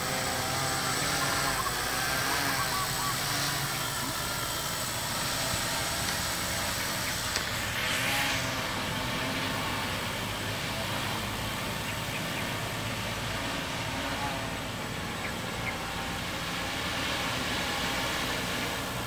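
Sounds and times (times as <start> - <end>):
drone rotors buzzing: 0.0 - 19.0.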